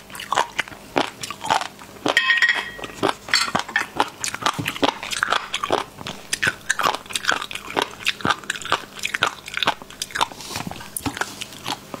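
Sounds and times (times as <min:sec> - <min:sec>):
crunchy chewing: 0:00.0 - 0:02.2, 0:02.8 - 0:12.0.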